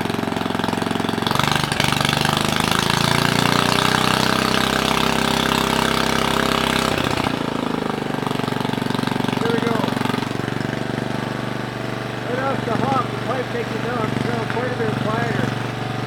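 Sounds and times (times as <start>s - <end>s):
small engine idling and revving: 0.0s - 16.0s.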